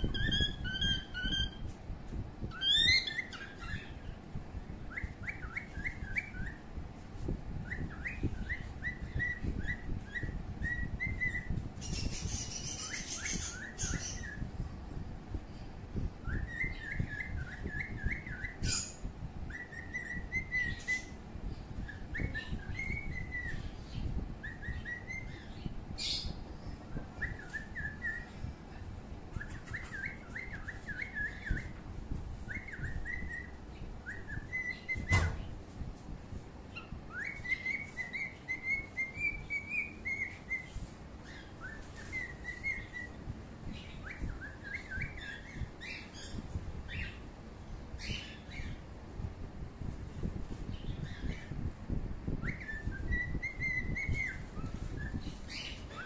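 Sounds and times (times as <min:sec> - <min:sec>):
bird whistling and chirping: 0:00.0 - 0:01.8, 0:02.4 - 0:04.1, 0:04.9 - 0:06.7, 0:07.6 - 0:14.5, 0:16.2 - 0:21.2, 0:21.8 - 0:28.4, 0:29.3 - 0:31.8, 0:32.4 - 0:35.5, 0:36.7 - 0:47.2, 0:48.0 - 0:48.8, 0:50.7 - 0:56.0
steady low rumble: 0:00.0 - 0:56.0.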